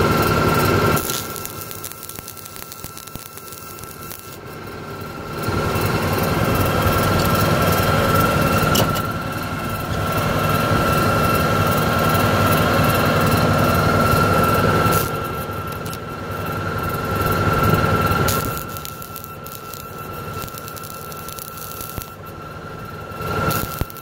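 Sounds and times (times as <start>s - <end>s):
generator whine: 0.0s - 24.0s
tractor engine running: 0.0s - 24.0s.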